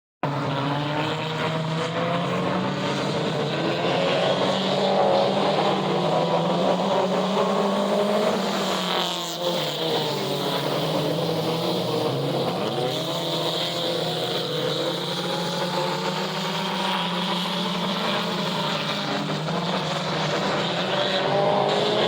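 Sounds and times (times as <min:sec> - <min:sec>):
race car engines: 0:00.2 - 0:22.0.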